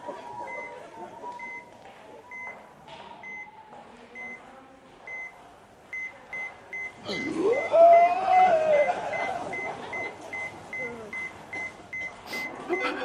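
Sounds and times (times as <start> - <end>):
patient monitor beeping: 0.0 - 13.0.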